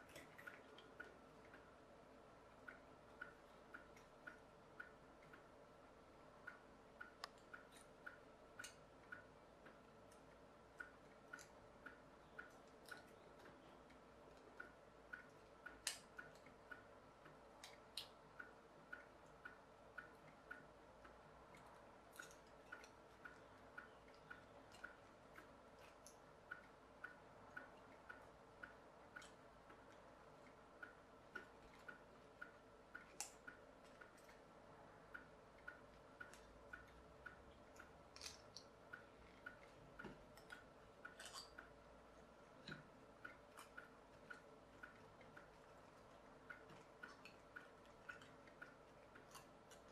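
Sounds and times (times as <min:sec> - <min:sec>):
faint even ticking: 0:00.0 - 0:49.9.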